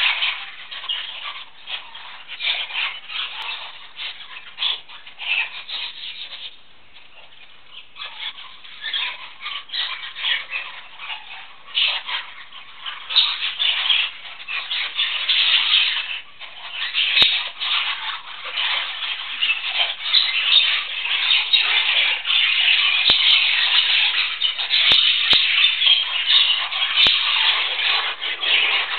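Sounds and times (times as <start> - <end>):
budgerigars chattering and warbling: 0.0 - 28.9.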